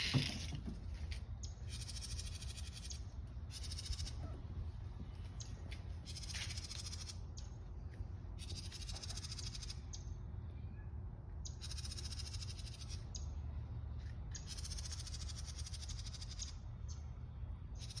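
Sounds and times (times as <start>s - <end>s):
birds buzzy rattling calls: 0.0s - 10.2s, 11.4s - 13.4s, 14.0s - 17.1s, 17.8s - 18.0s.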